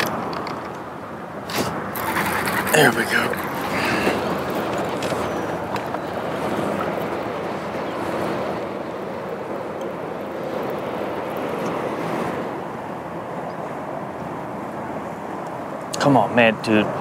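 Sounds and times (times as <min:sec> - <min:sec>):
waves lapping against boat hull: 0:00.0 - 0:13.6
steady wind: 0:00.0 - 0:17.0.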